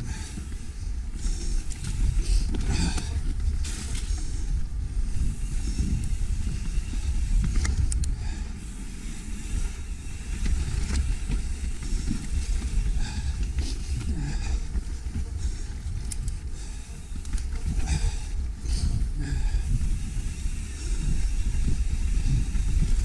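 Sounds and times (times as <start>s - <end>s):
bike clicks and clatters: 0.0s - 23.0s
wind buffeting microphone: 0.0s - 23.0s.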